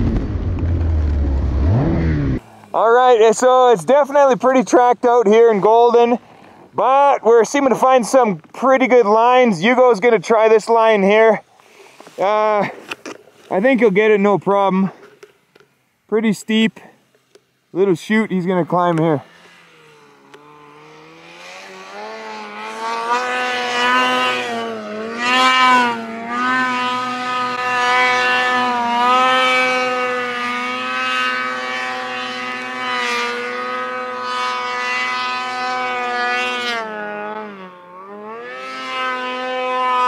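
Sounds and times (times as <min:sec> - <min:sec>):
snowmobile engine at high revs: 0:00.0 - 0:12.8, 0:17.8 - 0:40.0.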